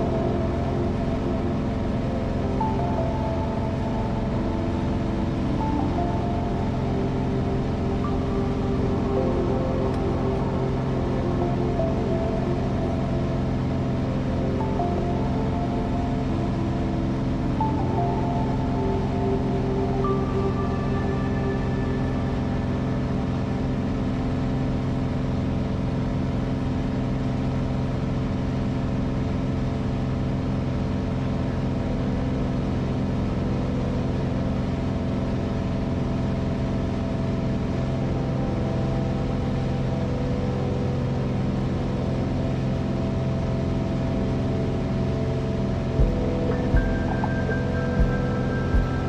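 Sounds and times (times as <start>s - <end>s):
light airplane engine drone: 0.0s - 49.0s.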